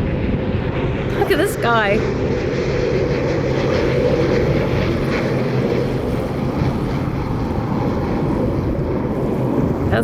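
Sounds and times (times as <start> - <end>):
aircraft propeller engines: 0.0 - 10.0.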